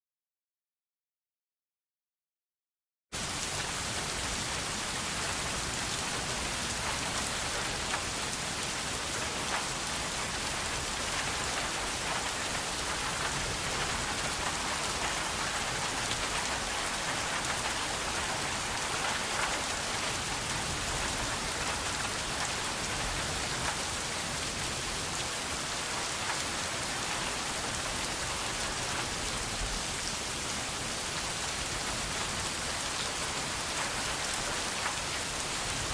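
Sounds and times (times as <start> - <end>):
steady rain falling: 3.2 - 35.9.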